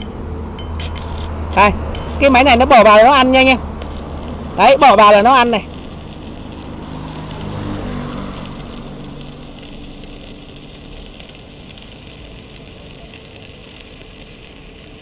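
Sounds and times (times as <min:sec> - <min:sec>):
welding arc crackling: 0:00.8 - 0:15.0.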